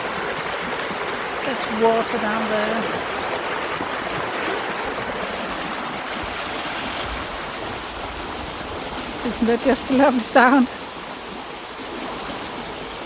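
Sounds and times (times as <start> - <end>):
creek water rushing: 0.0 - 13.0
low wind rumble on microphone: 2.5 - 13.0.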